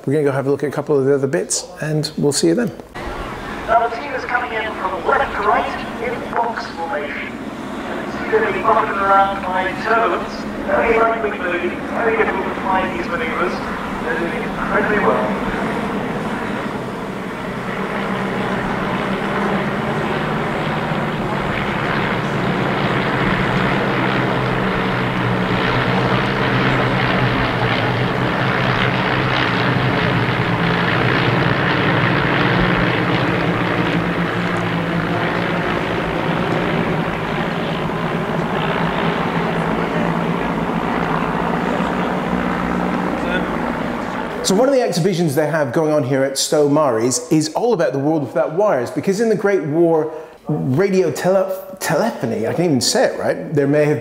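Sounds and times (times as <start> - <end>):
propeller planes droning overhead: 0.0 - 54.0.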